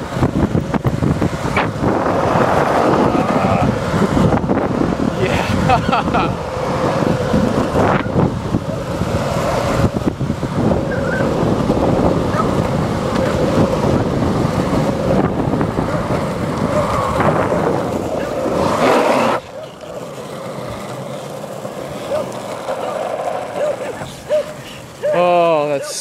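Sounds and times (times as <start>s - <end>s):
wind buffeting microphone: 0.0s - 25.2s
longboard wheels rolling on asphalt: 0.0s - 26.0s.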